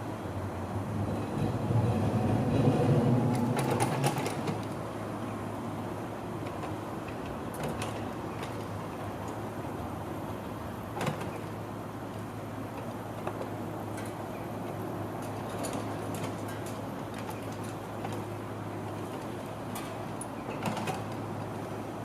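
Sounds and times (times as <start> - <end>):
low outdoor hum: 0.0 - 22.0
streetcar rumbling: 0.0 - 22.0.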